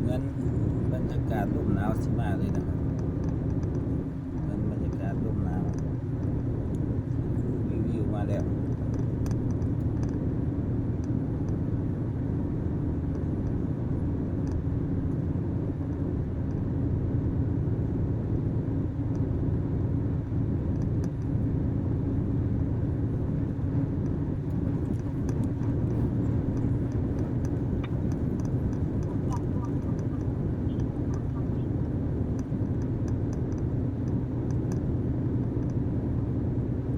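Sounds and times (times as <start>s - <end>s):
truck engine and road noise: 0.0s - 36.9s.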